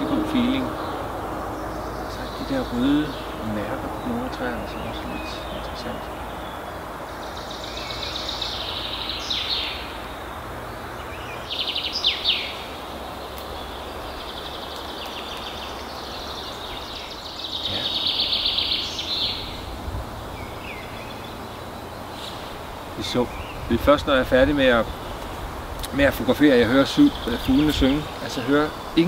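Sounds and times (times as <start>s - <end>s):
background hiss: 0.0s - 29.0s
songbirds trilling: 0.0s - 29.0s.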